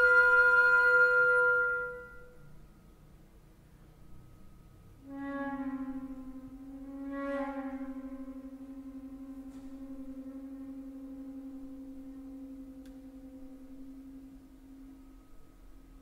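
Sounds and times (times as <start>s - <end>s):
flute long low note: 0.0s - 2.7s, 4.1s - 16.0s.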